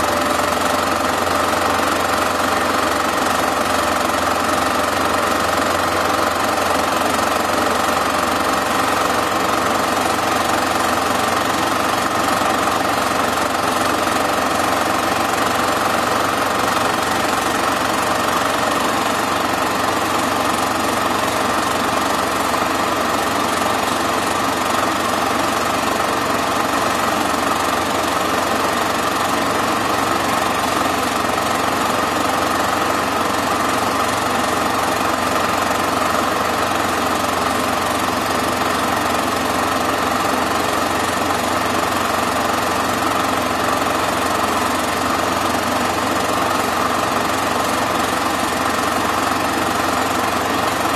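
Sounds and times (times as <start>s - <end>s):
film projector whirring and clattering: 0.0s - 50.9s.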